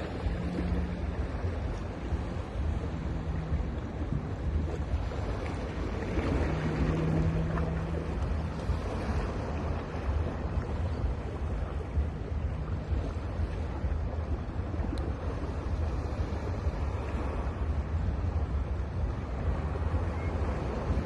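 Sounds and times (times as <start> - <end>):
faint low hum: 0.0 - 21.0
sea waves washing onto beach: 0.0 - 21.0
wind rumbling on microphone: 0.0 - 21.0.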